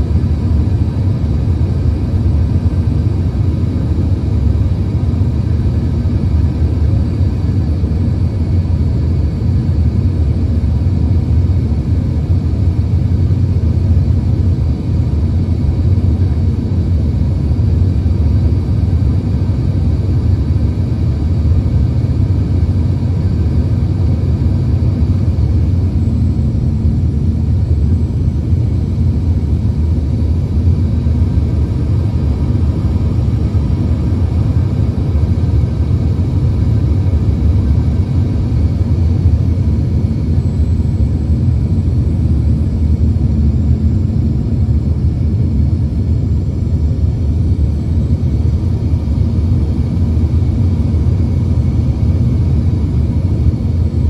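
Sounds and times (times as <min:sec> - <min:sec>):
high jet engine whine: 0:00.0 - 0:54.0
low rumble of airflow and engines: 0:00.0 - 0:54.0.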